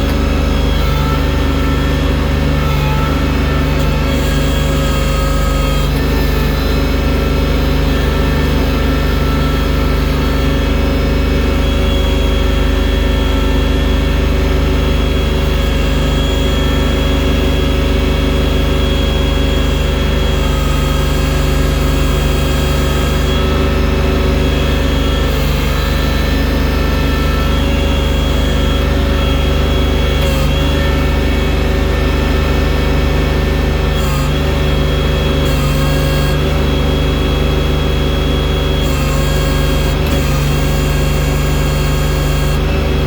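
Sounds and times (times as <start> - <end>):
thin steady whine: 0.0 - 43.0
tractor engine running: 0.0 - 43.0.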